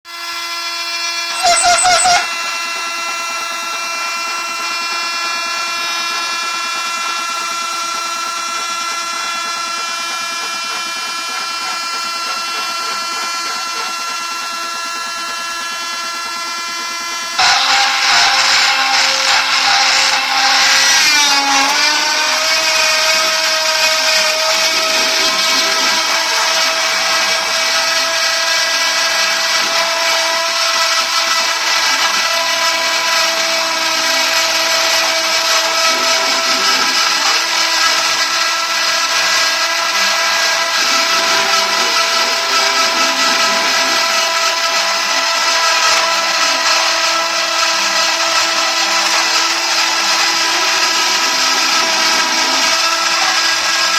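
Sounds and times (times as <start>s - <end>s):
router spindle high whine: 0.1s - 53.9s.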